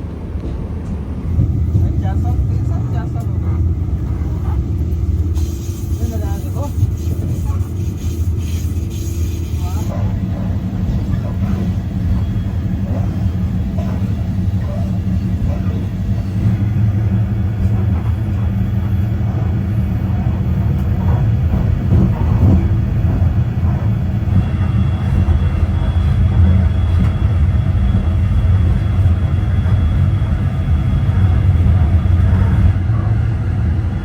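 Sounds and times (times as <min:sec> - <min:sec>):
train rumbling on track: 0:00.0 - 0:34.0.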